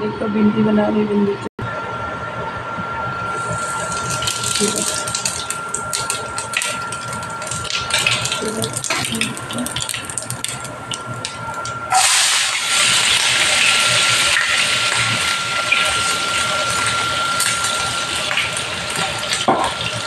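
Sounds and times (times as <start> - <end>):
loud steady sizzle: 3.2 - 20.0
seeds crackling in hot oil: 3.3 - 20.0.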